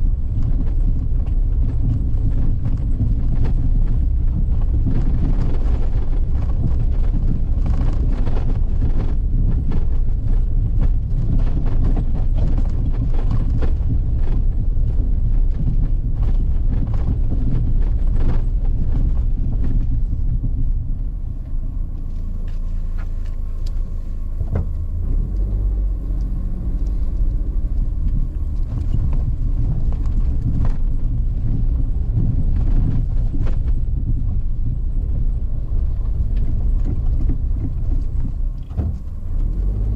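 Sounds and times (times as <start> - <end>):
vehicle rumbling on rough road: 0.0 - 39.9
knocks and rattles: 0.3 - 39.9.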